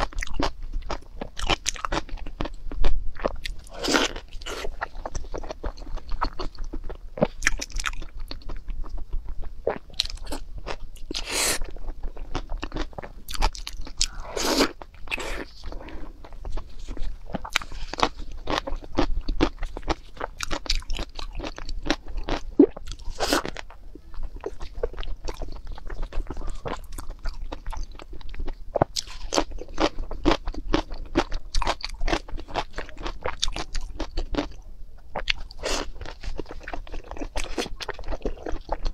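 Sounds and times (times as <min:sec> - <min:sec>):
person crunching and chewing food: 0:00.0 - 0:38.9.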